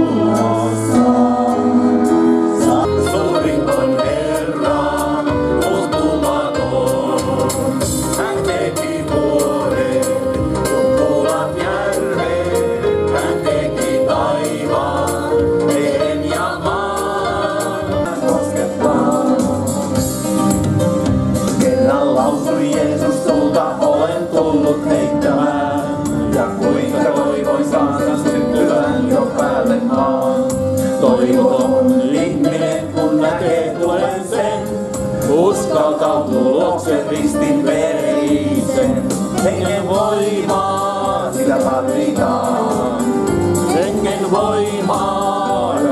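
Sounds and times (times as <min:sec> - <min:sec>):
group of singers singing: 0:00.0 - 0:20.6, 0:21.3 - 0:45.9.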